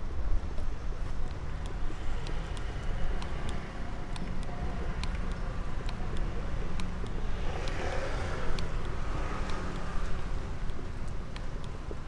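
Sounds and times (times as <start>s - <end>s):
low traffic rumble: 0.0s - 12.0s
sharp ticks: 1.2s - 11.9s.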